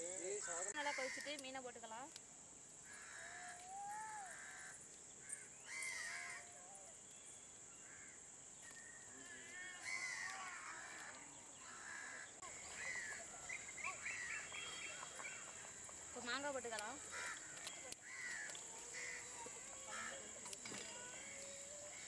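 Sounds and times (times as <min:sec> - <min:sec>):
crows cawing: 0:00.5 - 0:01.5, 0:02.8 - 0:06.6, 0:07.8 - 0:08.2, 0:08.8 - 0:22.0.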